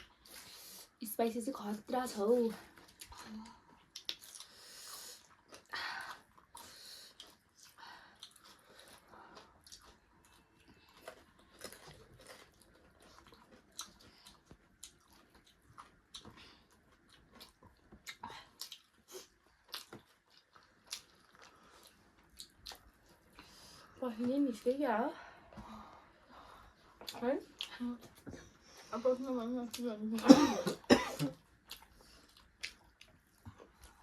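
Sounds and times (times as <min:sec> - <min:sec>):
chewing and crunching food: 0:00.0 - 0:30.2, 0:31.3 - 0:34.0.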